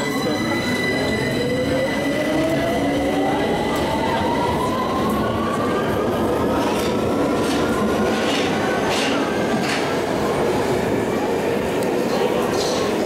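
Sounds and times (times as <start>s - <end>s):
train wheels rumbling: 1.2s - 13.0s.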